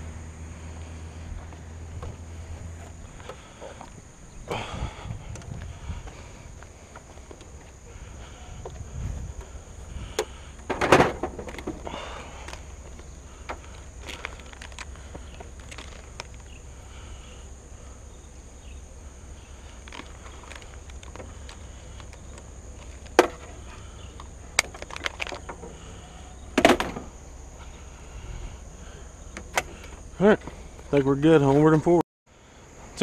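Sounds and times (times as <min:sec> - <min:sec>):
high insect drone: 0:00.0 - 0:33.0.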